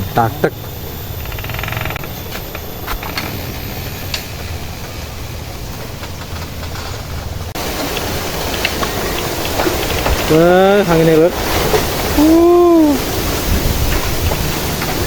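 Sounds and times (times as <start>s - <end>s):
bright hiss: 0.0s - 15.0s
wind buffeting microphone: 0.0s - 15.0s.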